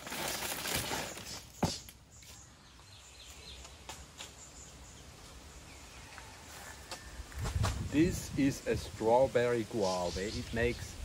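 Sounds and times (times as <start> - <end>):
rustle: 0.0 - 11.0.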